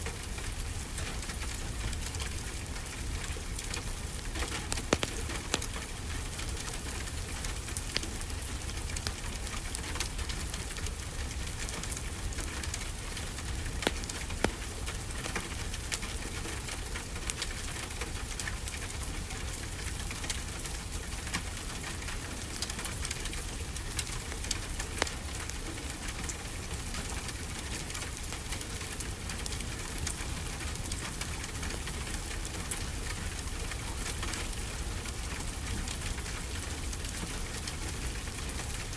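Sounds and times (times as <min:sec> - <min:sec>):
steady rainfall hiss: 0:00.0 - 0:38.9
wood fire crackling and popping: 0:00.2 - 0:38.9.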